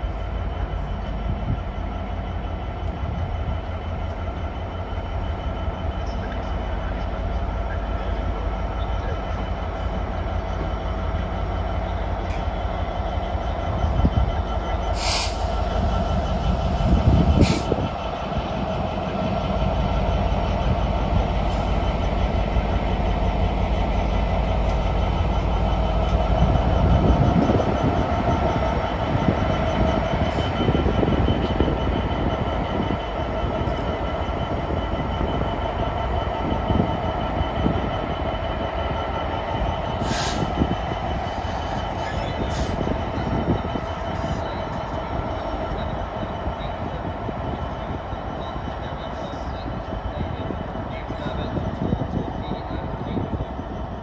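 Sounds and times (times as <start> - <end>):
constant engine whine: 0.0 - 54.0
diesel locomotive rumble: 0.0 - 54.0.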